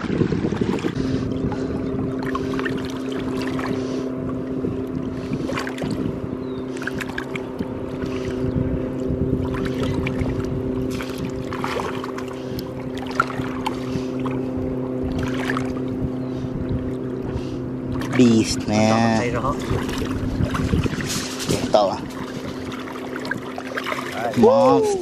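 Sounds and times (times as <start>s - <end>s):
engine running: 0.0s - 25.0s
water splashing: 0.0s - 25.0s.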